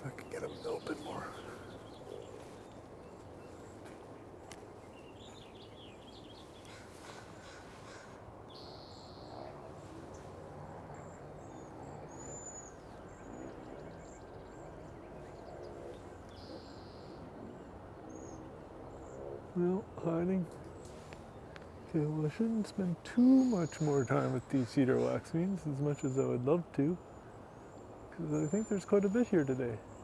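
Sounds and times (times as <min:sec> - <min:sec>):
low outdoor background noise: 0:00.0 - 0:30.0.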